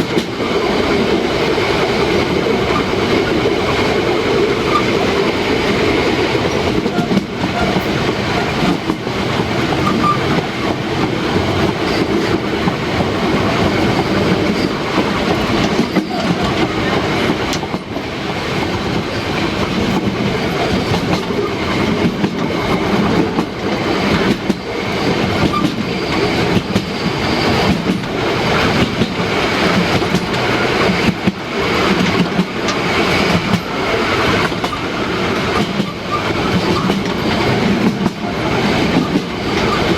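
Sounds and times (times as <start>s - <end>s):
steam train running: 0.0s - 39.9s.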